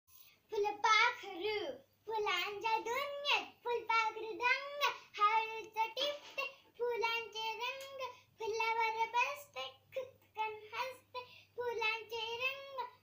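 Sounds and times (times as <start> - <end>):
girl singing unaccompanied: 0.5 - 13.0.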